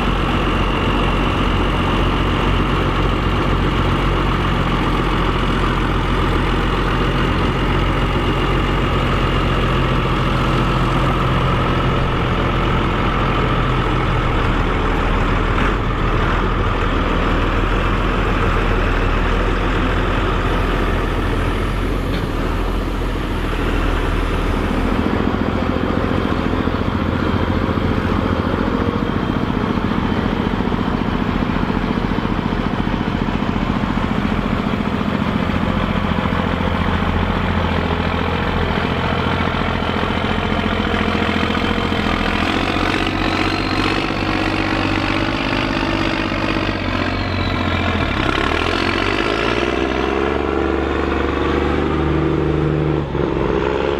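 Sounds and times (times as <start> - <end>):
tractor diesel engines running: 0.0 - 53.9.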